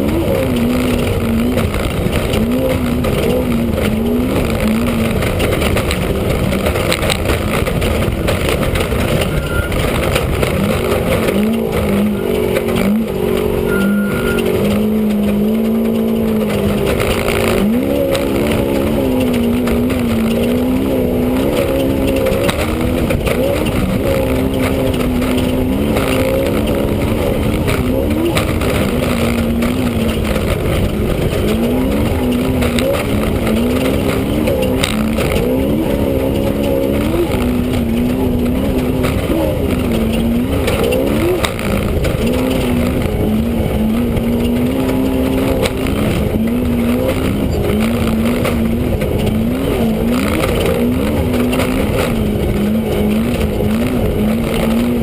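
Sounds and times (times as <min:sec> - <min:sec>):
race vehicle engine revving: 0:00.0 - 0:55.0
rattle and rumble from rough ground: 0:00.0 - 0:55.0.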